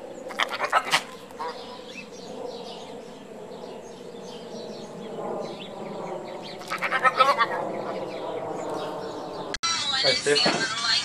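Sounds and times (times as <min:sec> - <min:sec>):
small birds chirping: 0:00.0 - 0:10.2
outdoor background noise: 0:00.0 - 0:11.0.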